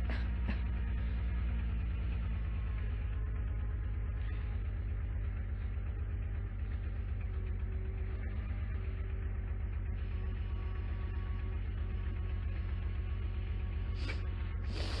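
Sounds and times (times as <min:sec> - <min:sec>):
engine idling with low thrum: 0:00.0 - 0:15.0.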